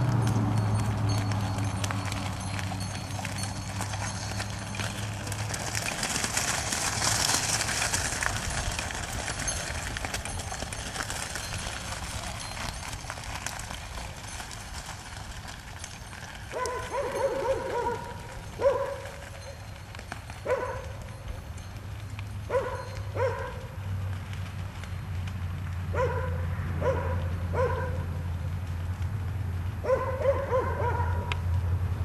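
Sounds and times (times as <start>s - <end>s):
cart wheels crunching gravel: 0.0s - 32.0s
hoofbeats on gravel: 0.0s - 32.0s.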